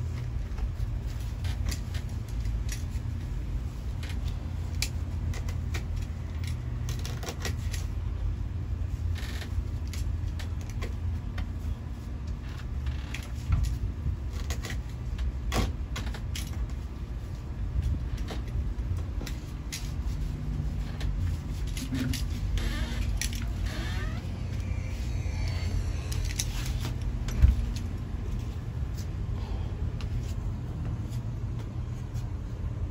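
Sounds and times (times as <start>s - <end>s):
steady low rumble: 0.0s - 32.9s.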